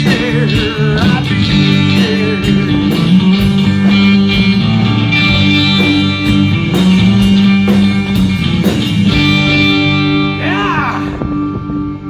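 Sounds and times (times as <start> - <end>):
drum kit beat: 0.0 - 11.5
live band playing: 0.0 - 11.5
bass: 0.0 - 12.0
guitar chords: 0.0 - 12.0.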